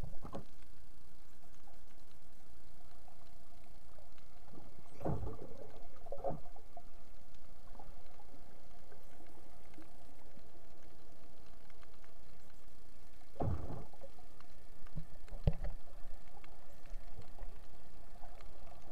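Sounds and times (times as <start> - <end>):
faint steady hum: 0.0 - 18.9
muffled underwater rumble and hiss: 0.0 - 18.9.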